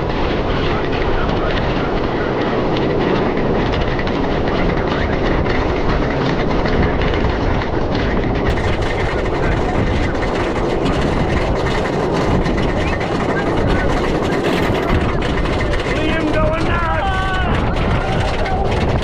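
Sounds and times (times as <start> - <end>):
rapid clacking: 0.0 - 19.0
roller coaster wheels rushing: 0.0 - 19.0
wind on microphone: 0.0 - 19.0.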